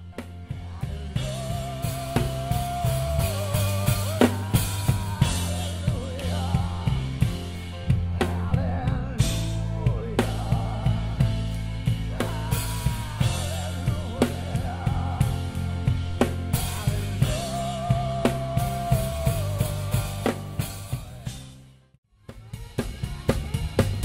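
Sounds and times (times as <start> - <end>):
live band music: 0.0 - 21.7, 22.3 - 24.0
drum kit beat: 0.0 - 24.0.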